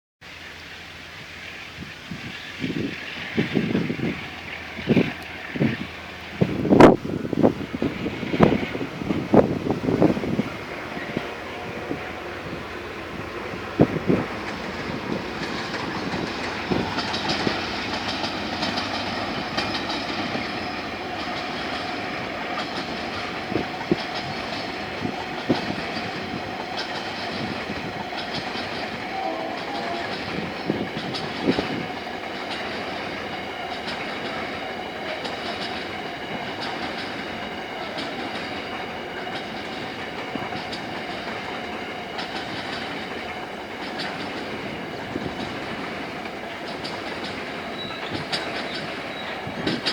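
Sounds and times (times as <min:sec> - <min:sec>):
train rumble: 0:00.2 - 0:49.9
train wheels clacking over rail joints: 0:01.5 - 0:49.9.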